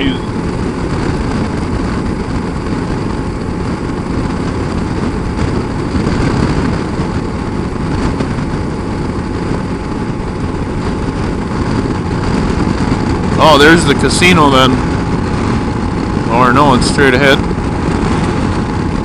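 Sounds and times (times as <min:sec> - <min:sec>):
motorcycle engine cruising: 0:00.0 - 0:19.0
wind rush on microphone: 0:00.0 - 0:19.0.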